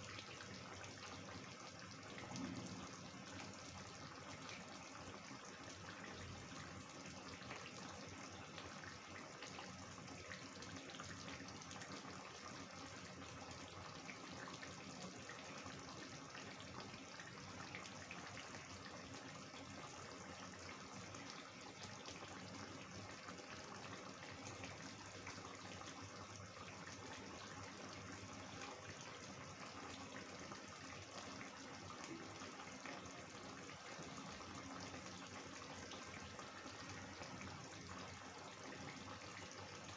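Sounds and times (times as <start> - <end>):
curry bubbling and popping: 0.0 - 39.9.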